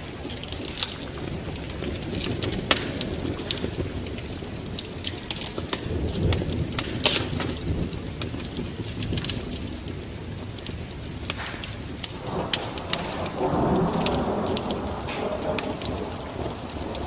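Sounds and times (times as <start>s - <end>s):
fire pops and snaps: 0.0s - 17.0s
low rumble of burning: 0.0s - 17.0s.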